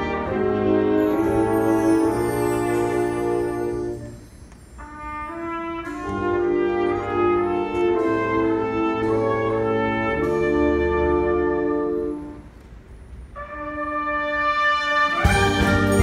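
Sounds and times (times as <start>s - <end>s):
brass held chords: 0.0s - 12.6s, 13.3s - 16.0s
wind orchestra playing: 0.0s - 16.0s.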